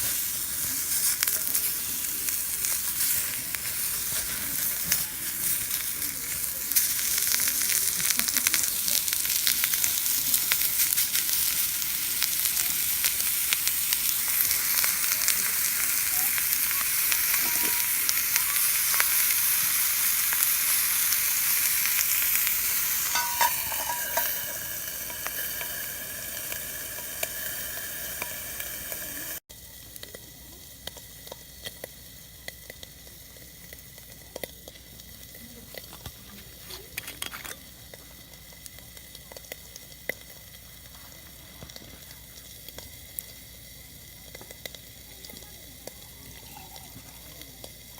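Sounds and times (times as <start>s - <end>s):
campfire crackles: 0.0s - 47.9s
food sizzling in a grill pan: 0.0s - 47.9s.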